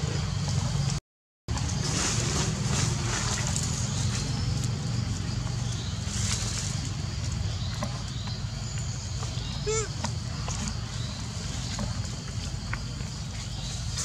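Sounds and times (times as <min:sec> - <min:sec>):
low rumble and hiss: 0:00.0 - 0:14.0
rustling in dry leaves: 0:01.5 - 0:08.1, 0:09.2 - 0:14.0.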